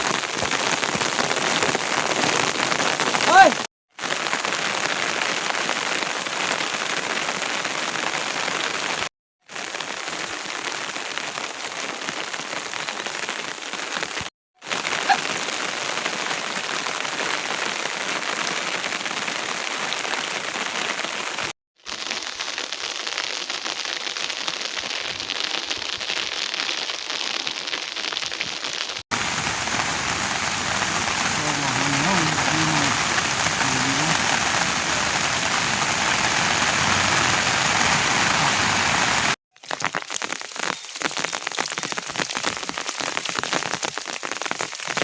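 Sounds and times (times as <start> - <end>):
steady rain falling: 0.0 - 9.0, 9.6 - 45.0.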